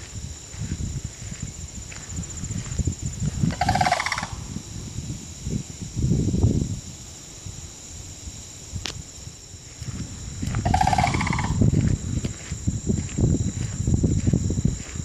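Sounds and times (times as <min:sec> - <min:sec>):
faint high whine: 0:00.0 - 0:15.0
low rumbling microphone noise: 0:00.0 - 0:15.0.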